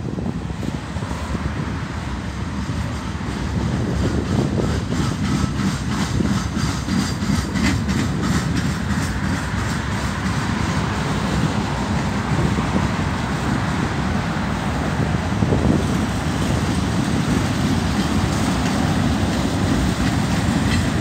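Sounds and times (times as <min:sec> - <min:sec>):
train wheels rumbling on rail: 0:00.0 - 0:21.0
wheels clicking and clattering: 0:02.6 - 0:21.0.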